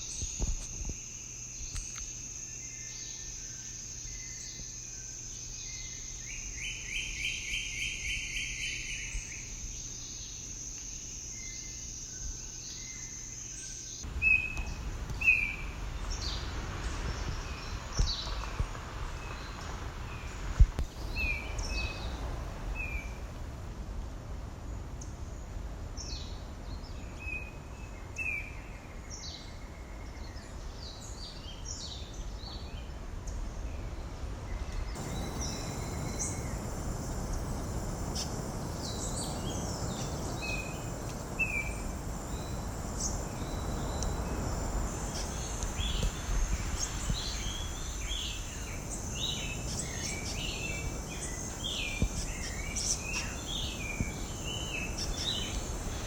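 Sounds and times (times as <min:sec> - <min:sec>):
outdoor background noise: 0:00.0 - 0:56.0
wild birds chirping: 0:01.6 - 0:23.2, 0:24.7 - 0:56.0.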